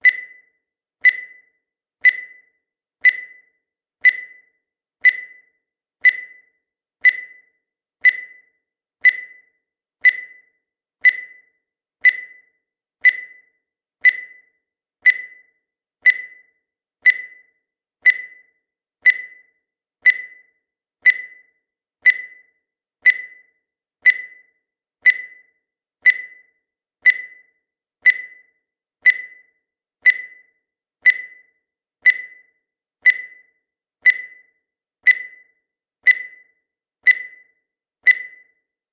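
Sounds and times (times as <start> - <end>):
high-pitched timer ticks: 0.0 - 38.8.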